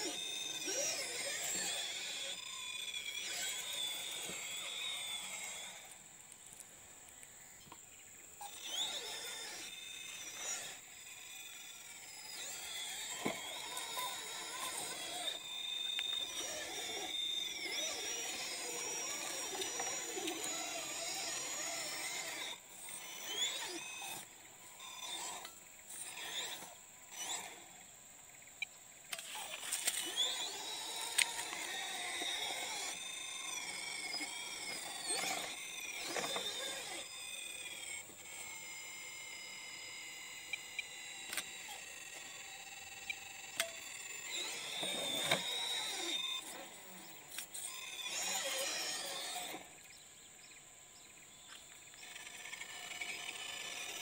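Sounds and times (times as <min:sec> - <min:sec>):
electric motor whining: 0:00.0 - 0:54.0.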